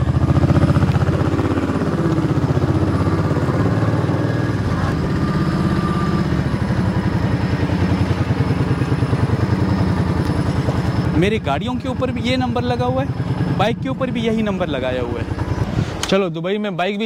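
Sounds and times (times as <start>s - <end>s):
motorcycle engine running: 0.0s - 16.1s.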